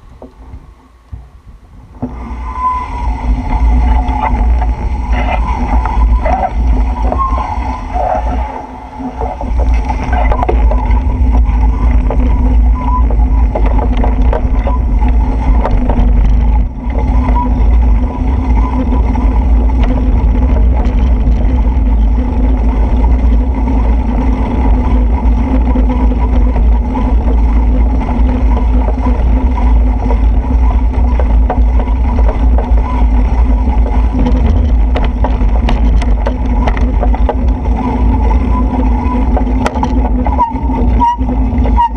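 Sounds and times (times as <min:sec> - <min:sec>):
wind and road noise rumble: 0:00.0 - 0:41.9.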